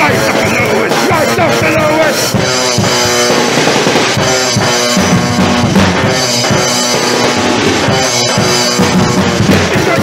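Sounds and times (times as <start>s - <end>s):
bass drum pounding: 0.0s - 10.0s
distorted guitar: 0.0s - 10.0s
heavy rock music: 0.0s - 10.0s.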